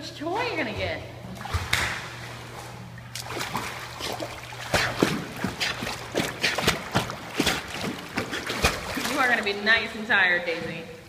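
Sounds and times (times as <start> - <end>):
dog paddling splashes: 0.6 - 10.8.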